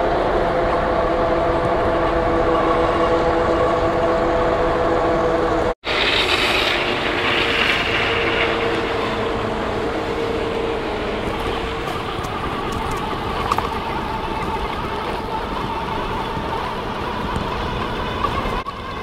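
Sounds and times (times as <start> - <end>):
electric bike motor whine: 0.0 - 19.0
road noise: 0.0 - 19.0
wind noise: 0.0 - 19.0.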